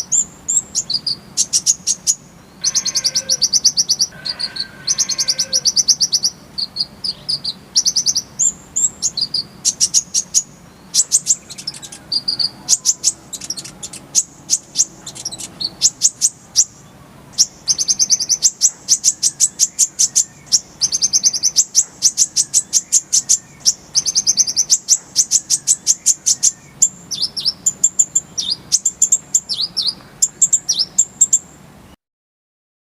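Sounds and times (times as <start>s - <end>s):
bird singing high chirps: 0.0s - 32.0s.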